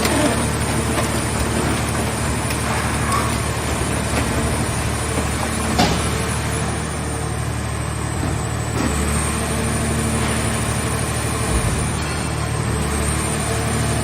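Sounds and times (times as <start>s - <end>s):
baler engine and hydraulics running: 0.0s - 14.0s.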